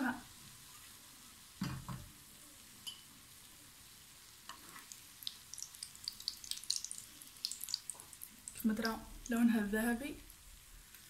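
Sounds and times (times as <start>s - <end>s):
batter frying in hot oil: 0.0s - 11.0s.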